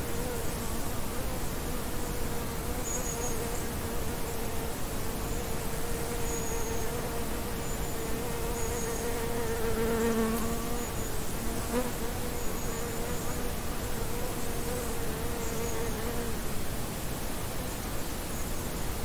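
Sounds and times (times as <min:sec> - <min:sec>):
flying insects buzzing: 0:00.0 - 0:16.8.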